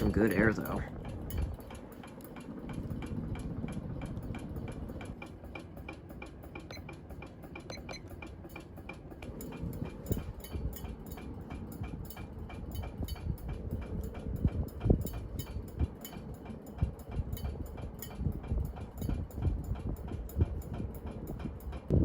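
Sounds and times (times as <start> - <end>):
ceiling fan ticking: 0.0 - 22.0.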